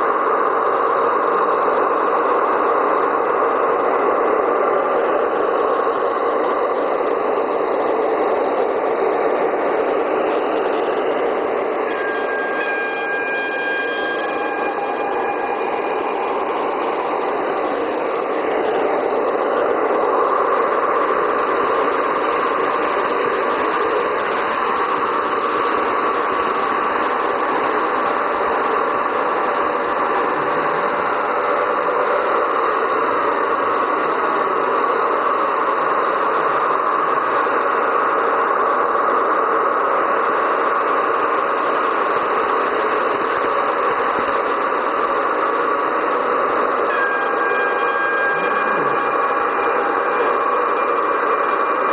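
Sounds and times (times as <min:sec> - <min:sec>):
model train engine drone: 0:00.0 - 0:51.9
wheels rattling on track: 0:00.0 - 0:51.9.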